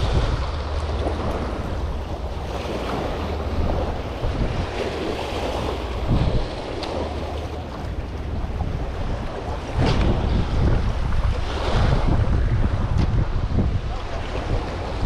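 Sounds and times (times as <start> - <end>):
surf washing against jetty: 0.0 - 15.0
wind buffeting microphone: 0.0 - 15.0.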